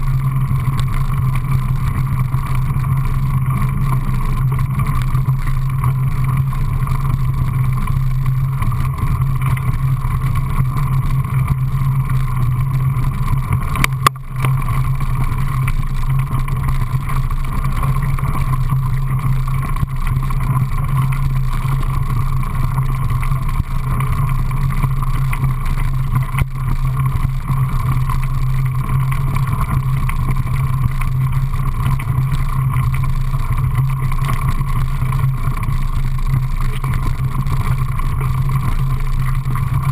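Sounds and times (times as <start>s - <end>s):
bike rolling on gravel trail: 0.0s - 39.9s.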